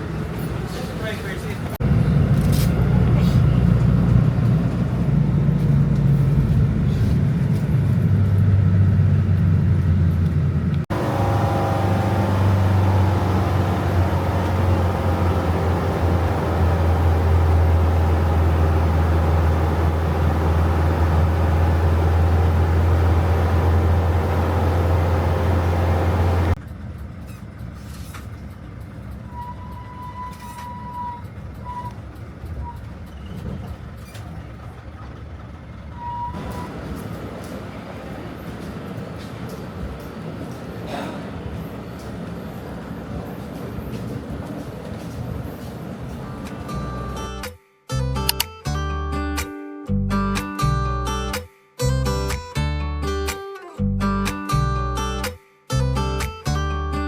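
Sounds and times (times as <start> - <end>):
large vehicle engine droning: 0.0 - 47.4.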